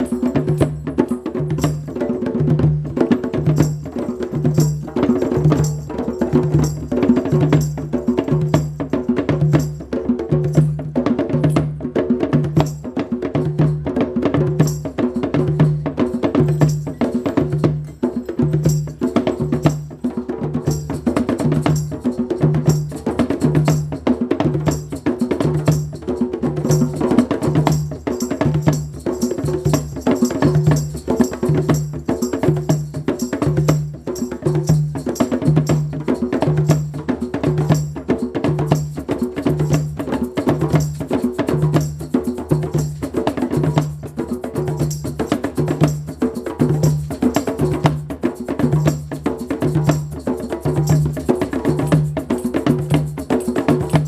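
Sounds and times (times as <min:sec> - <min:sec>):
percussion groove: 0:00.0 - 0:54.0.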